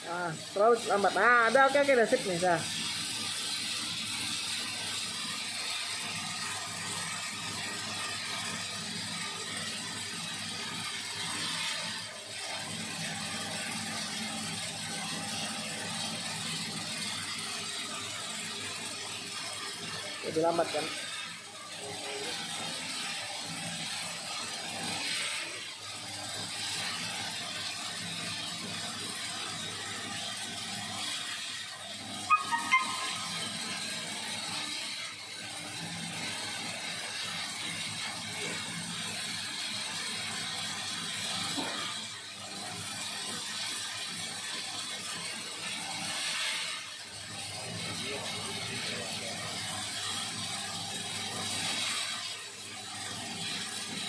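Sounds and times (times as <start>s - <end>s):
cleaning machine humming and hissing: 0.0s - 54.0s.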